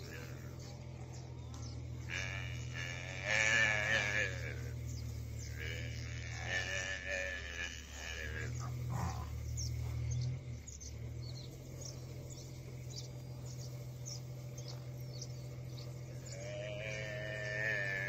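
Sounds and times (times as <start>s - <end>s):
buffalo calf bleating: 0.0s - 10.3s, 12.7s - 18.0s
steady low hum: 0.0s - 18.0s.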